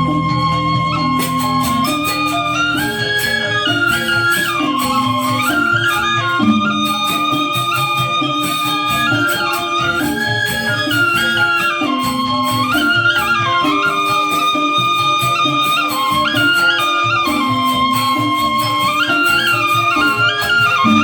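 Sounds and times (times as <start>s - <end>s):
bamboo instruments: 0.0s - 21.0s
metallophones: 0.0s - 21.0s.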